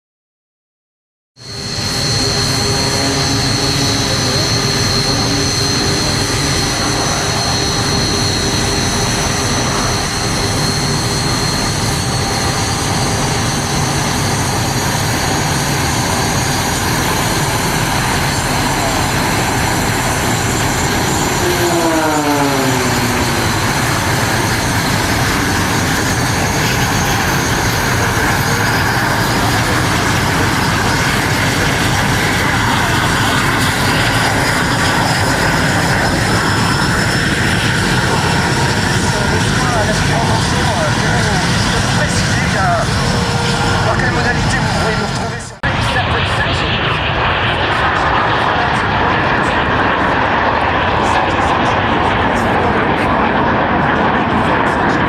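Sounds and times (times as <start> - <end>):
jet engines running: 1.4 - 55.0.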